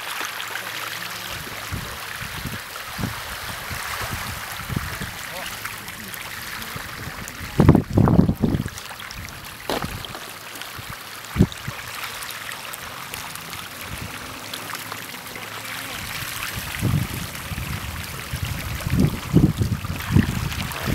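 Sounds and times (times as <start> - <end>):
sea water washing at shore: 0.0 - 20.9
low rumbling: 1.2 - 20.9.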